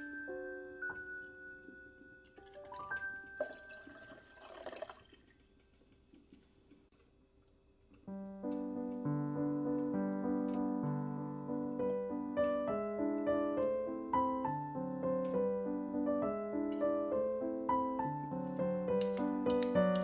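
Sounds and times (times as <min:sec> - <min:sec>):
piano music: 0:00.0 - 0:04.7, 0:08.1 - 0:20.0.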